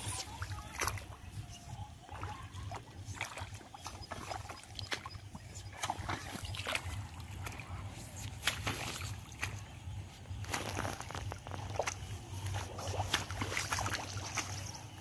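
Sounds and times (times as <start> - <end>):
boots sloshing through water and mud: 0.0 - 15.0.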